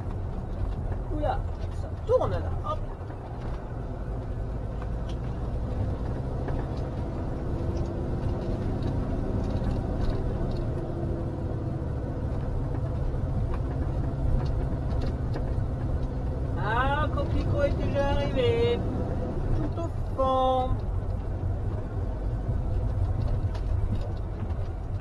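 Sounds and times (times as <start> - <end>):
engine and tyre rumble: 0.0 - 25.0.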